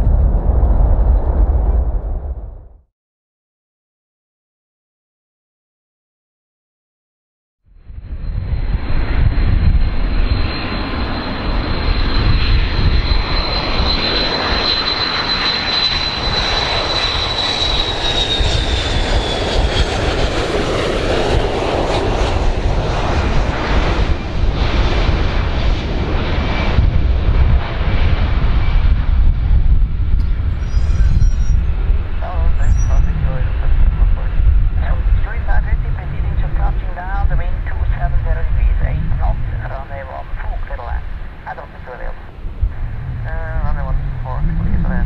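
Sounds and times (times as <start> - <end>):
jet engine roar: 0.0 - 2.6, 7.8 - 45.0
high jet whine: 7.8 - 45.0.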